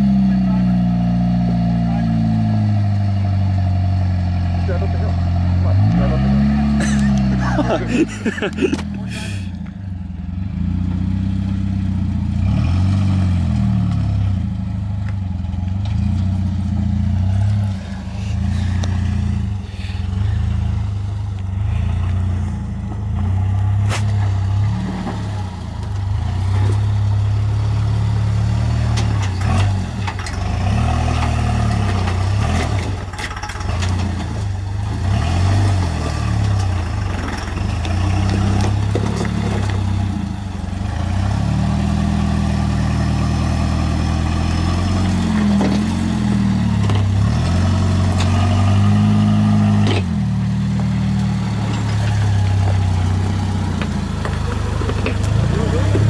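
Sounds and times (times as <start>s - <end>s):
engine revving at low revs: 0.0s - 56.0s.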